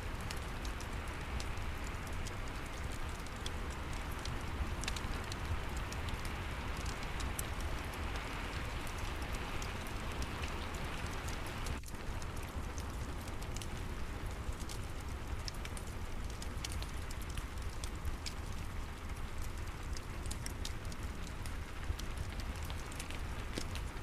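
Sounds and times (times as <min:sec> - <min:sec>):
fireplace crackling: 0:00.0 - 0:24.0
rain falling: 0:00.0 - 0:24.0.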